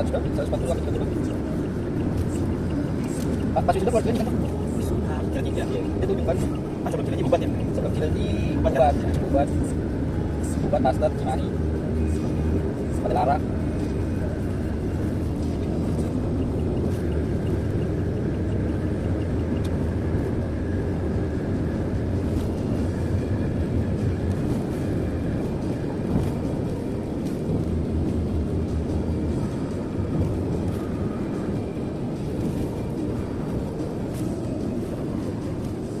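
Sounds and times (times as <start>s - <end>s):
road and engine rumble in car: 0.0s - 36.0s.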